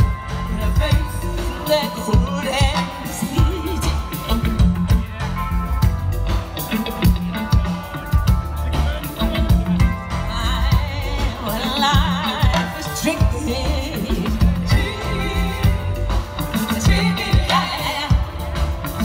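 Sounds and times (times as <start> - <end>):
person singing: 0.0 - 5.4, 9.0 - 19.0
live band playing pop song: 0.0 - 19.0.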